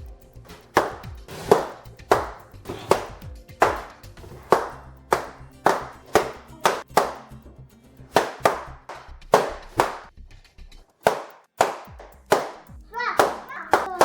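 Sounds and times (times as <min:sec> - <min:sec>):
faint background music: 0:00.0 - 0:14.0
balloons popping: 0:00.5 - 0:07.3, 0:08.1 - 0:10.1, 0:10.9 - 0:14.0.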